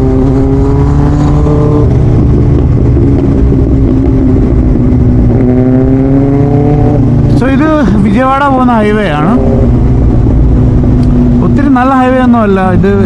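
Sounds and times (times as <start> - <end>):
motorcycle engine accelerating: 0.0 - 12.3
wind rumble: 0.0 - 13.0.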